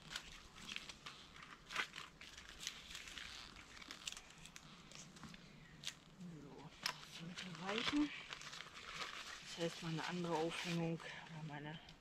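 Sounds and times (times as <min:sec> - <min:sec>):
webbing rustling and crinkling: 0:00.0 - 0:12.0.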